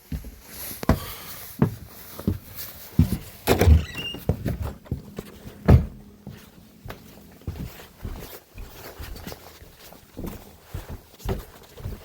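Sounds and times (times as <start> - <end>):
footsteps going up stairs: 0.0 - 12.0.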